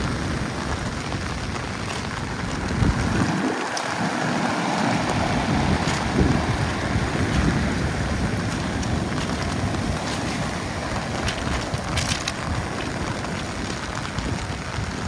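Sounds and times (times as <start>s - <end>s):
strong wind buffeting microphone: 0.0s - 15.0s
surf rushing: 0.0s - 15.0s.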